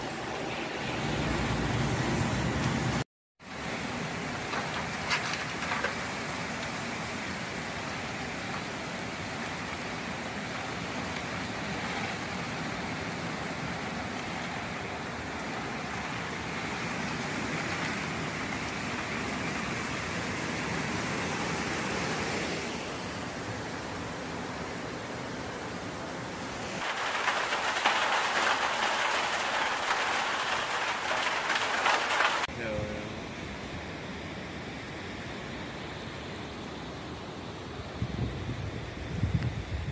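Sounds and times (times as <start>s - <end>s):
hurricane wind and rain hissing: 0.0s - 39.9s.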